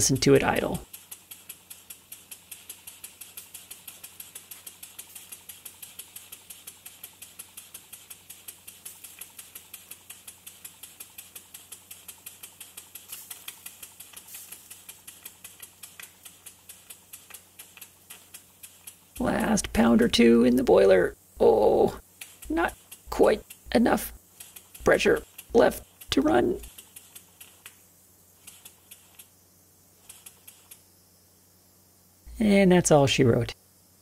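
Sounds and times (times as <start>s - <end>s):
model steam engine clicking: 0.0s - 29.4s, 30.0s - 30.9s.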